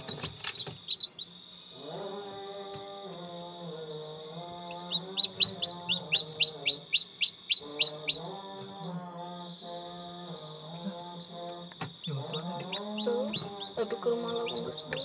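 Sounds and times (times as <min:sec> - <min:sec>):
chick peeping: 0:00.0 - 0:15.0.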